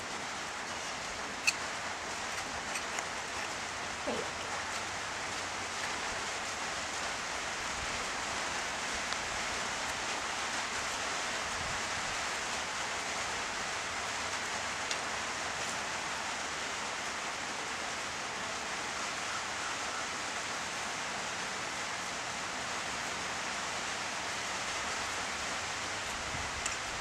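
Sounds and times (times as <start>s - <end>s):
rain on a roof: 0.0s - 27.0s.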